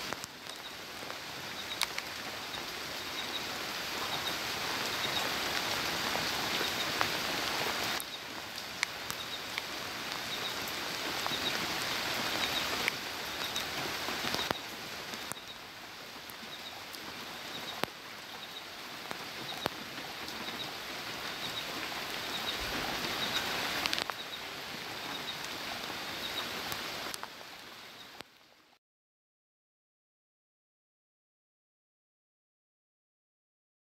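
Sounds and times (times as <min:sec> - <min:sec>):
heavy rain: 0:00.0 - 0:28.8
raindrops ticking on surfaces: 0:00.0 - 0:28.8.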